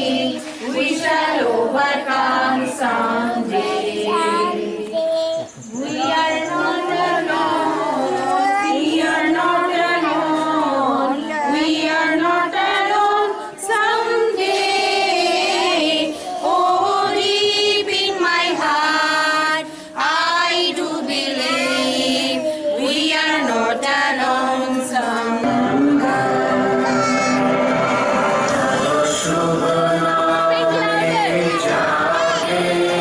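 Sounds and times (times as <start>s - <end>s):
children and women singing: 0.0s - 33.0s.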